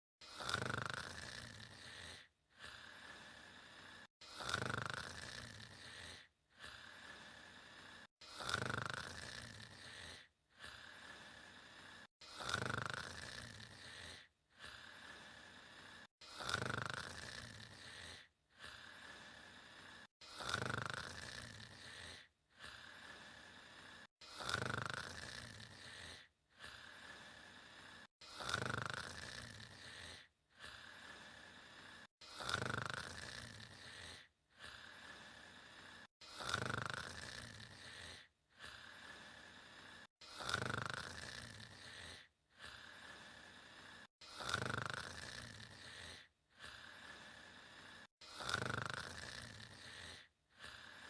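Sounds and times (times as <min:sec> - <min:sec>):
person snoring: 0:00.2 - 0:51.0.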